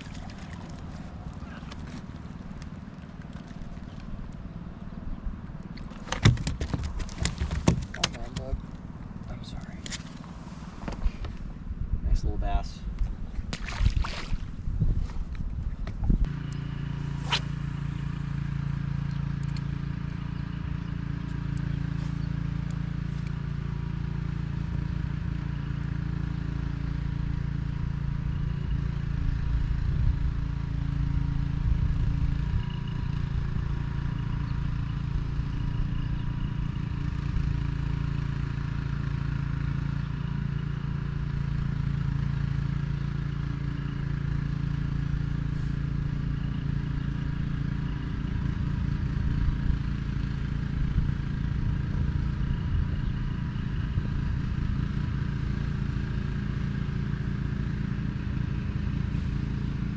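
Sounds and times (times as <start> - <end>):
boat motor running: 0.0 - 12.0, 12.8 - 59.9.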